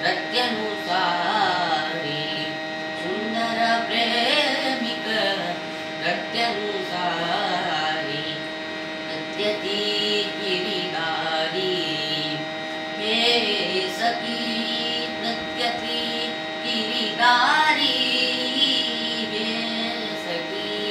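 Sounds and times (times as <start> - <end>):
boy singing: 0.0 - 8.4, 9.1 - 12.4, 13.0 - 20.9
steady drone: 0.0 - 20.9.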